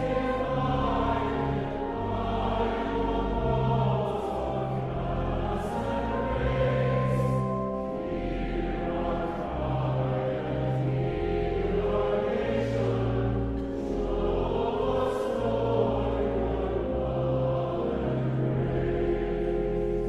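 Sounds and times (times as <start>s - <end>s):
choir singing a hymn: 0.0s - 20.0s
church organ bass notes: 0.0s - 20.0s.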